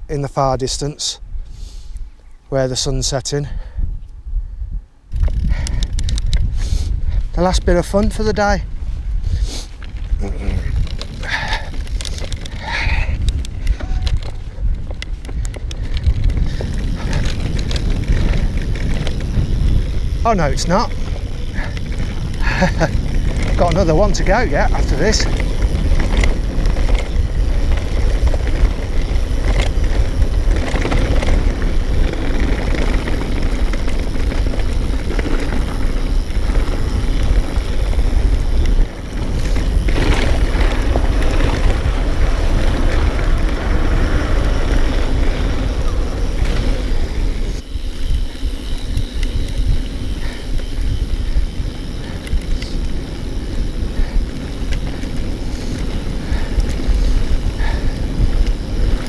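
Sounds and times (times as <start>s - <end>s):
wind rushing over microphone: 0.0s - 59.0s
tyres rumbling over dirt: 9.8s - 59.0s.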